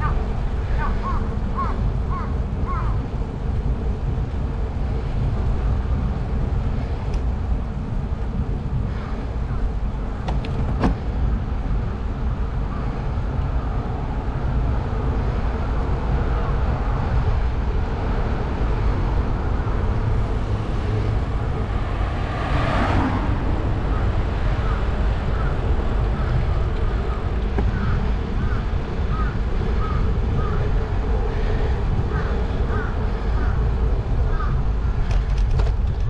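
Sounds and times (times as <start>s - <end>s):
road rumble: 0.0s - 36.0s
wind noise: 0.0s - 36.0s.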